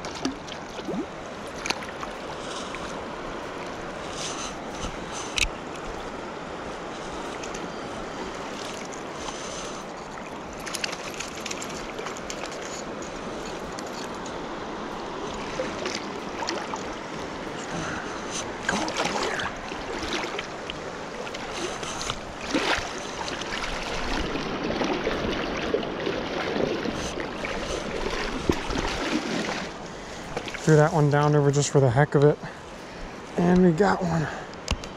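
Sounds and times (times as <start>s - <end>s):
flowing river water: 0.0s - 34.9s.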